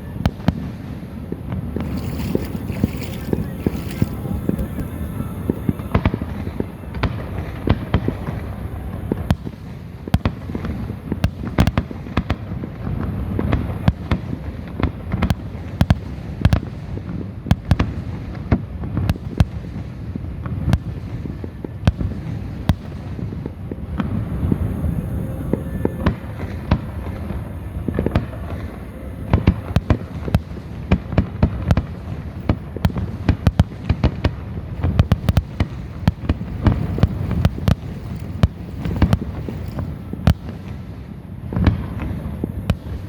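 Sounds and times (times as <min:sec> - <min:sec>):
distant fireworks rumble: 0:00.0 - 0:43.0
fireworks cracking and popping: 0:00.0 - 0:43.0.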